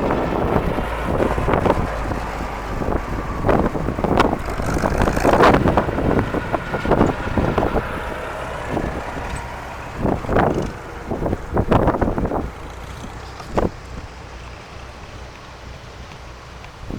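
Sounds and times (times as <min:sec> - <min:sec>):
tractor engines running: 0:00.0 - 0:16.9
wind buffeting microphone: 0:00.0 - 0:16.9.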